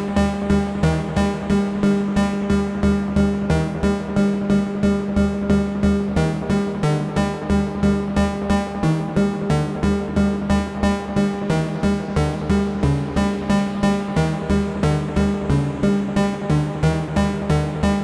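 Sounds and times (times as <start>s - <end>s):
pulsing sequenced synthesizer pattern: 0.0s - 18.0s.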